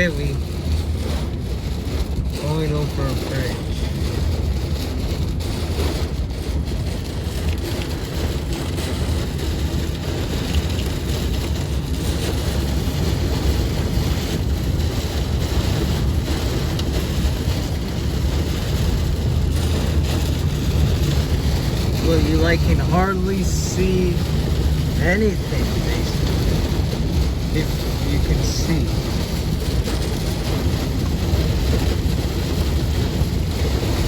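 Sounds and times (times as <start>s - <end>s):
heavy rain hissing: 0.0s - 34.0s
road rumble: 0.0s - 34.0s
wet road spray: 0.0s - 34.0s.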